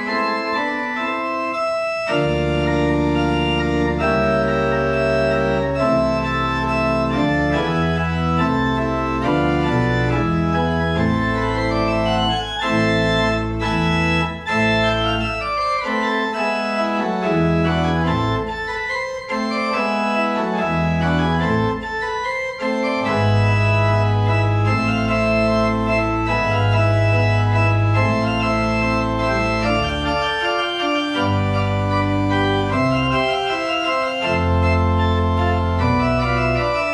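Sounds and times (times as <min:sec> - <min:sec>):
church organ playing chords: 0:00.0 - 0:36.9.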